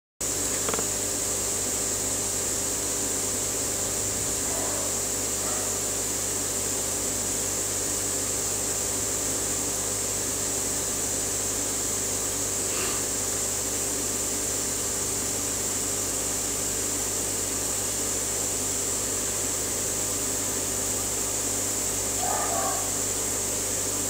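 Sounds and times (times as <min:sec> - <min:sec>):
mechanical hum: 0:00.2 - 0:24.0.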